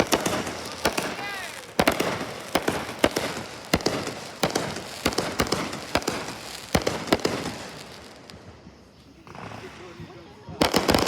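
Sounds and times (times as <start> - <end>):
fireworks crackle: 0.0 - 11.0
fireworks pops and bangs: 0.0 - 11.0.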